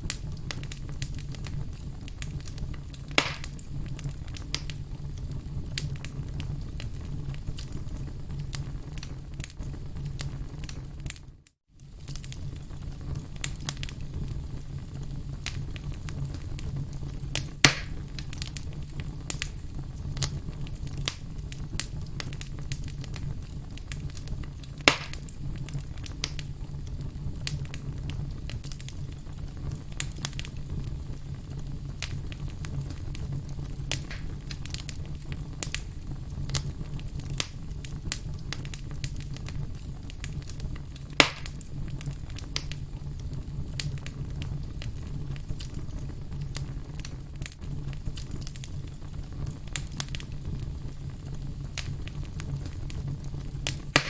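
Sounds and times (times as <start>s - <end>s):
firewood crackling: 0.0s - 54.0s
loud fire pops: 0.0s - 54.0s
low fire rumble: 0.0s - 54.0s.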